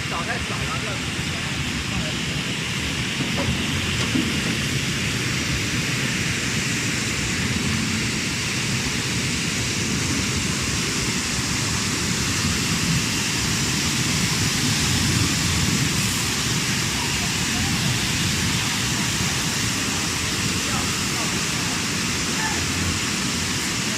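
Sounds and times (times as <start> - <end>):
churning bubbling water: 0.0 - 8.2, 9.7 - 23.9.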